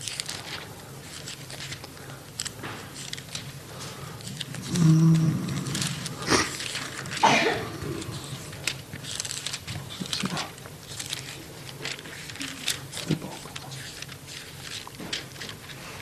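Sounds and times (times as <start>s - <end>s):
low steady hum: 0.0s - 16.0s
thin pages rustling: 0.0s - 16.0s.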